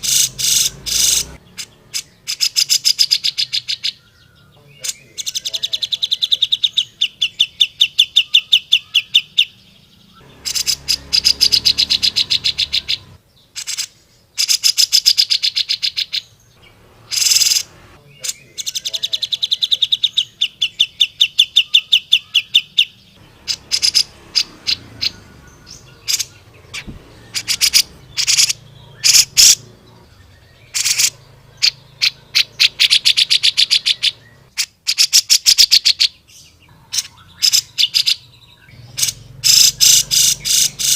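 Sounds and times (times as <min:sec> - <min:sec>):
bird chattering song: 0:00.0 - 0:40.9
sharp bird calls: 0:00.0 - 0:40.9.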